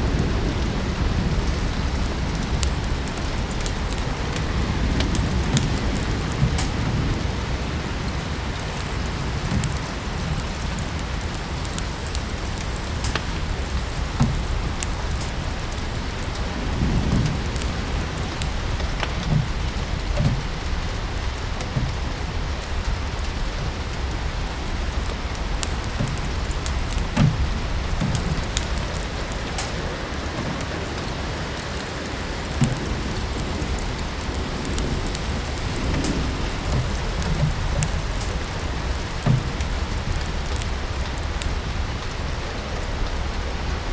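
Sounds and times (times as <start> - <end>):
steady rain: 0.0 - 43.9
wood fire crackling: 0.0 - 43.9.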